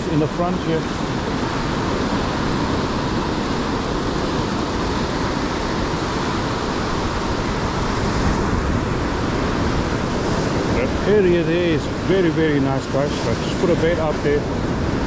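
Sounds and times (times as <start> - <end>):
surf breaking over rocks: 0.0 - 15.0
wind on microphone: 0.0 - 15.0.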